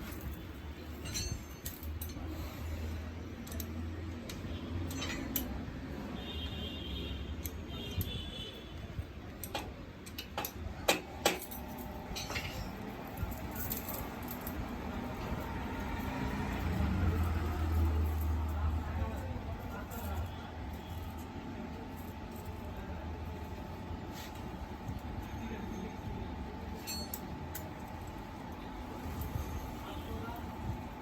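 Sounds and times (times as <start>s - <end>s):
metal tools clinking on engine parts: 0.0s - 5.7s, 7.3s - 30.7s.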